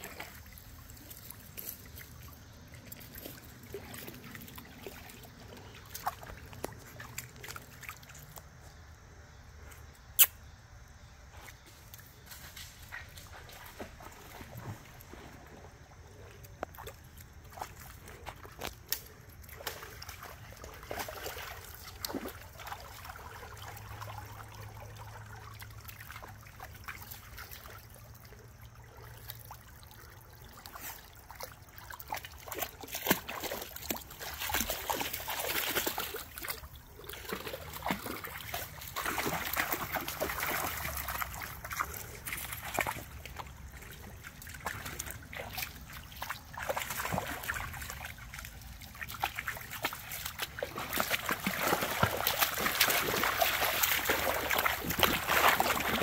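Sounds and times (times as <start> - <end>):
dogs splashing through water: 0.0 - 8.6, 12.9 - 56.0
water trickling over rocks: 0.0 - 9.1, 16.3 - 56.0.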